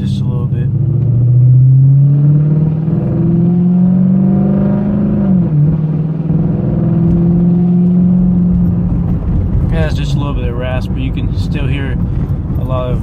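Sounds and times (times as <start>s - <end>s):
car exhaust rumbling: 0.0s - 13.0s.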